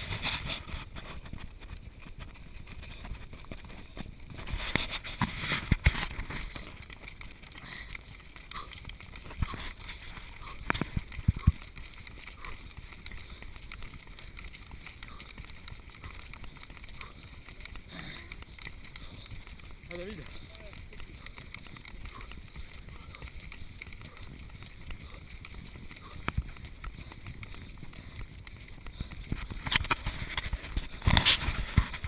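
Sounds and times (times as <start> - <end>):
running footsteps on dirt trail: 0.0 - 32.0.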